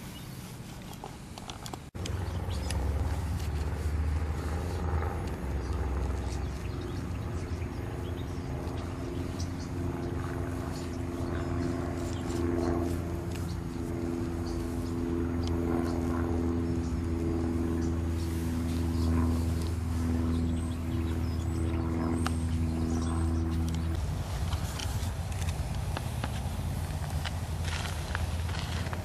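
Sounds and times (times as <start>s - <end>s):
engine running with low rumble: 1.0s - 29.0s.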